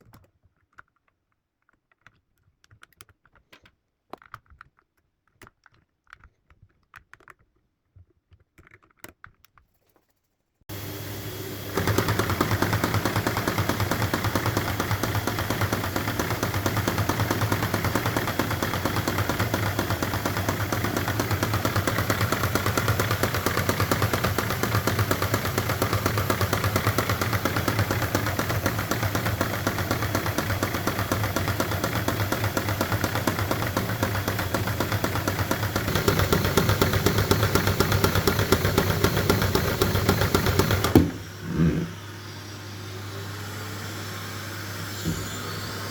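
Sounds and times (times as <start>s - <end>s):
clatter of plastic engine parts: 0.0s - 10.6s, 11.8s - 41.2s.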